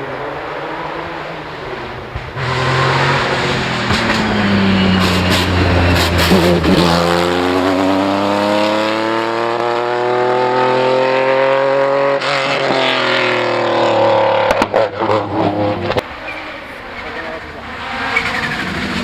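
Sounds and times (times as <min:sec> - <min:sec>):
rally car engine at high revs: 0:00.0 - 0:19.0.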